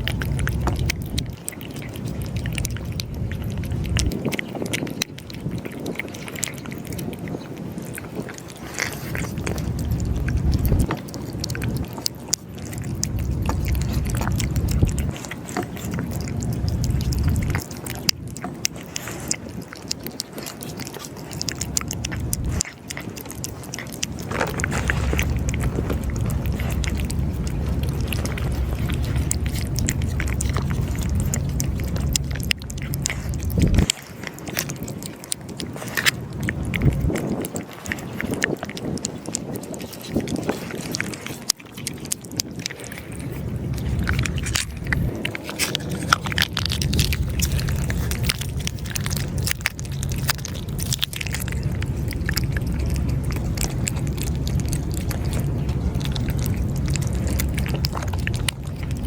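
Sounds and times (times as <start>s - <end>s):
low rumble: 0.0s - 5.7s, 8.7s - 38.7s, 40.4s - 59.0s
cats crunching food: 0.0s - 59.0s.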